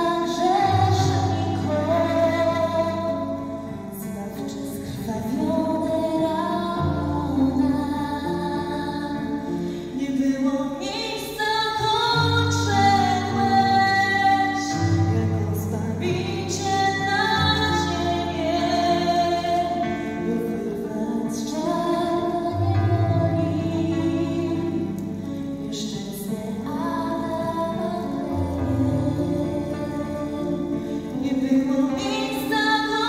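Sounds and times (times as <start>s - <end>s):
woman singing into microphone: 0.0s - 33.0s.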